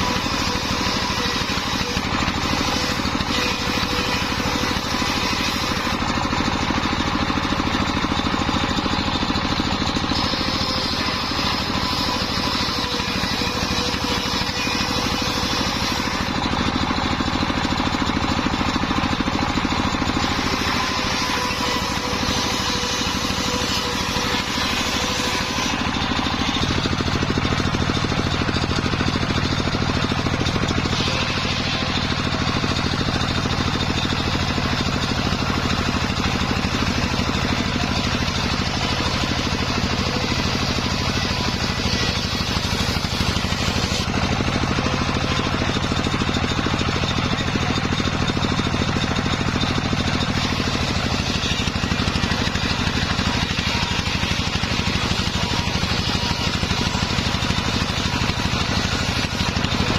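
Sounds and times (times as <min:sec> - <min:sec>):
saw rig engine running: 0:00.0 - 0:59.9.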